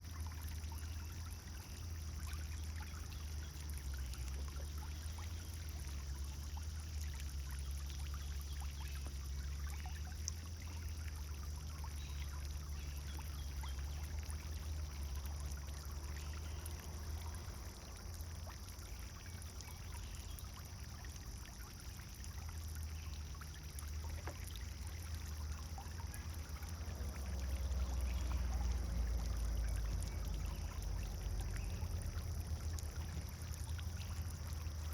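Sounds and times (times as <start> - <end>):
fountain splashing into water: 0.0 - 34.9.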